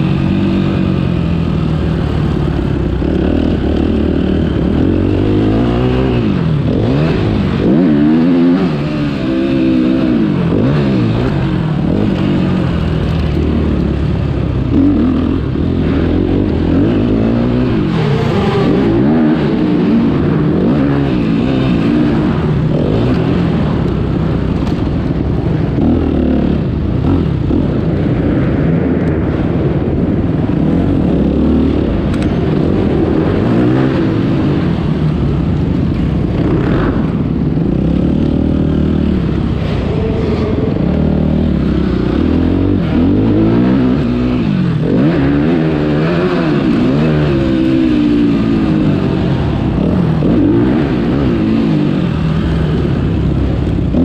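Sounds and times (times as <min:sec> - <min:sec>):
dirt bike engine revving: 0:00.0 - 0:28.1, 0:30.4 - 0:54.0.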